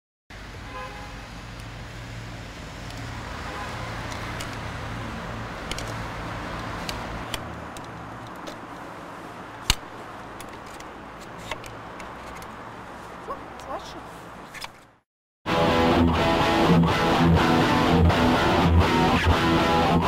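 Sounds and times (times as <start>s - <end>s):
road traffic noise: 0.3s - 20.0s.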